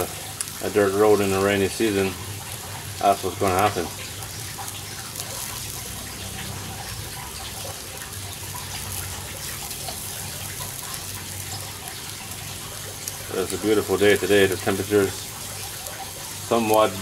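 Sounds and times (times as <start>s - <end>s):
meat sizzling on a grill: 0.0s - 17.0s.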